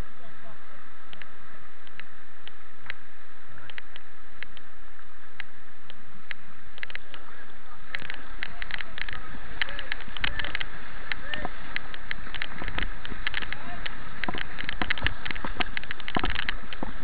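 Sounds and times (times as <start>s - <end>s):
water splashes: 0.0s - 17.0s
white water rushing: 0.0s - 17.0s.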